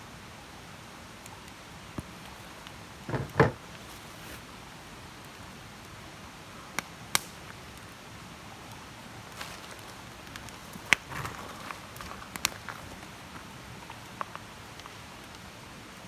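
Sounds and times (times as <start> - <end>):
campfire crackling and popping: 1.2 - 4.1, 4.7 - 16.0.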